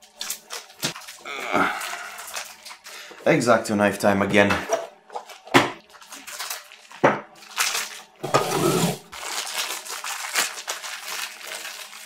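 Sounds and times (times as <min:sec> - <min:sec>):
plastic bag crinkling: 0:00.0 - 0:03.2, 0:05.2 - 0:12.0.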